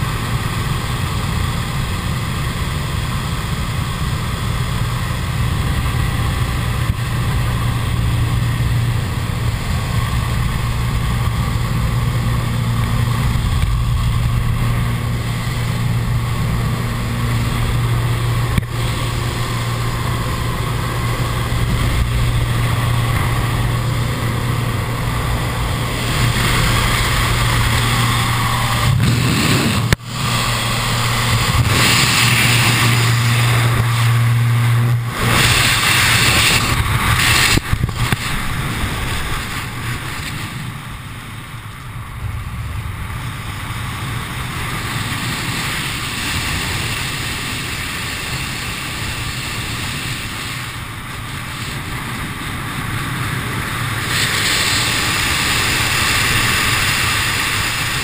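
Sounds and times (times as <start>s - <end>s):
plane engine droning: 0.0s - 58.0s
rush of wind: 0.0s - 58.0s.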